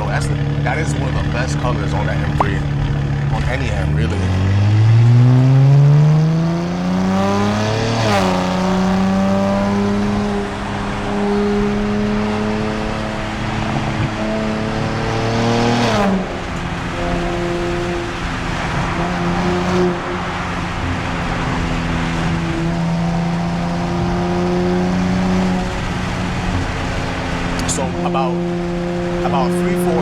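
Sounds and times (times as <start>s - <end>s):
car engine accelerating: 0.0s - 30.0s
road noise: 0.0s - 30.0s.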